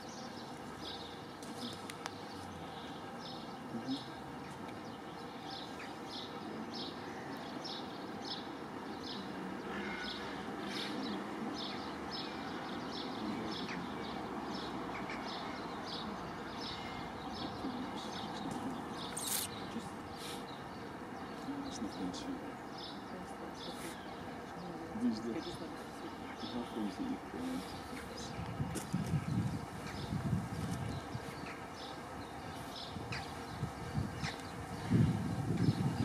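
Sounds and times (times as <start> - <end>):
bird chirping: 0.0 - 36.0.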